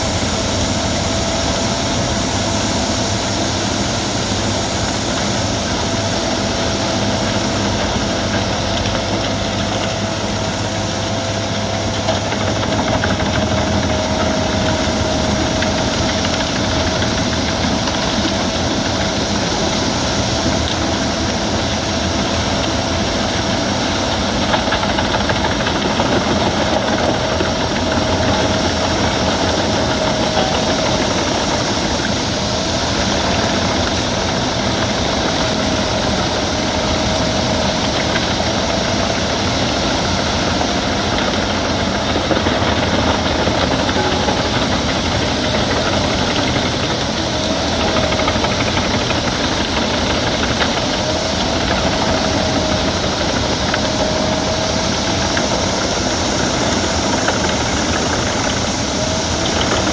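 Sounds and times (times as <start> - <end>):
wood chipper running: 0.0 - 59.9.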